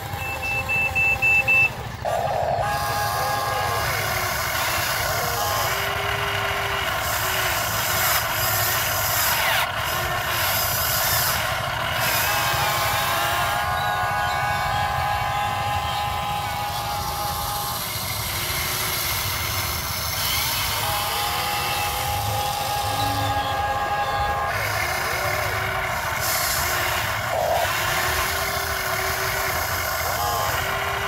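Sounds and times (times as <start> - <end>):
whining toy motor: 0.0 - 31.0.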